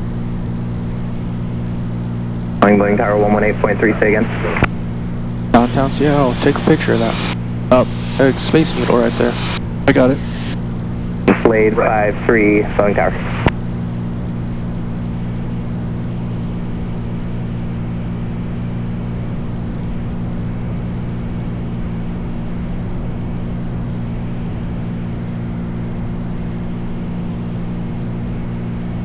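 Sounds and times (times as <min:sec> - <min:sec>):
airplane engine and propeller droning: 0:00.0 - 0:29.0.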